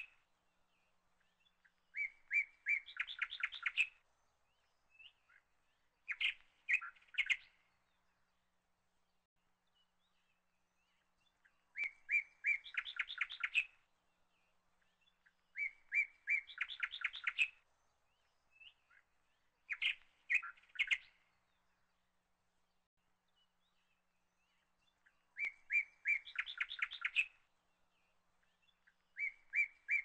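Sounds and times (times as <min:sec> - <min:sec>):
small bird singing: 0:00.0 - 0:30.0.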